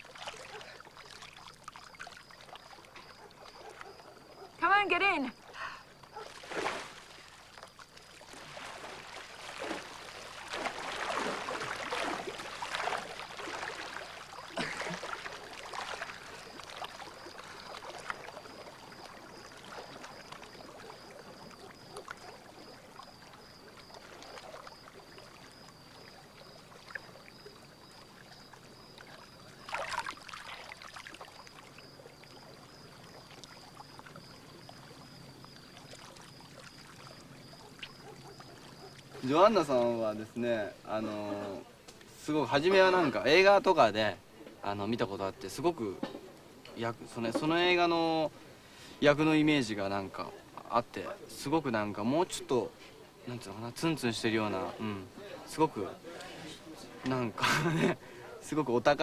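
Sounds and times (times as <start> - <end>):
pool water splashing: 0.0 - 59.0.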